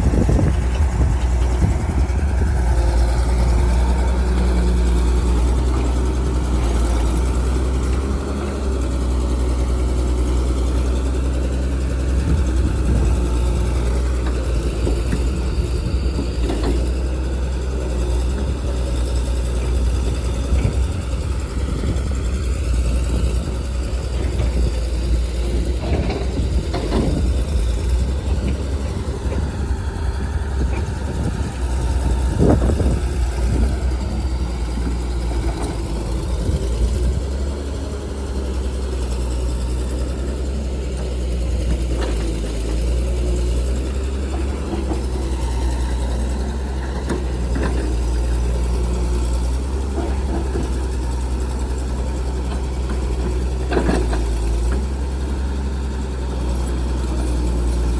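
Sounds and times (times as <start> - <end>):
heavy machinery diesel engine humming: 0.0 - 57.9.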